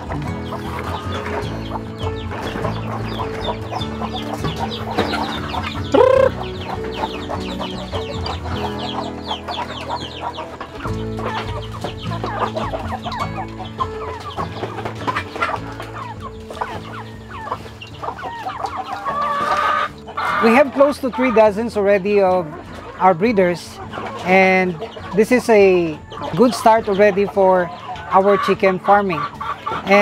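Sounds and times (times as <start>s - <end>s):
chicken squawk: 0.0s - 21.7s, 22.4s - 30.0s
background music: 0.0s - 30.0s
chickens clucking: 0.0s - 30.0s.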